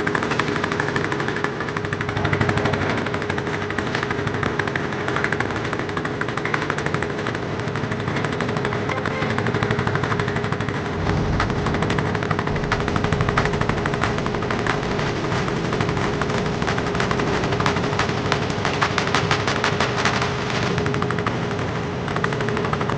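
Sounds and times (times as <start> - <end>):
boat engine knocking steadily: 0.0 - 22.9.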